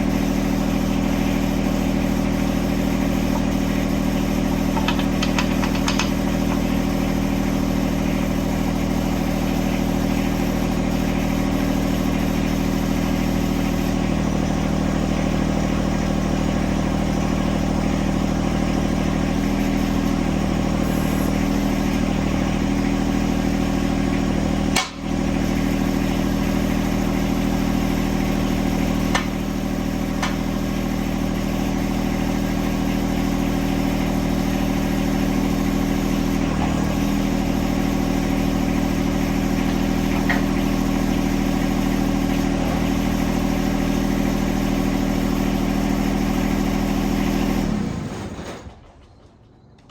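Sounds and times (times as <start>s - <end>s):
diesel tractor engine idling: 0.0s - 49.9s.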